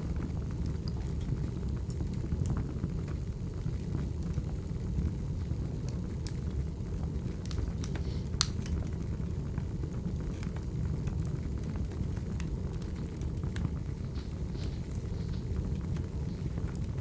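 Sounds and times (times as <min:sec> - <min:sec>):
sharp pops and snaps of fire: 0:00.0 - 0:17.0
wood fire crackling: 0:00.0 - 0:17.0.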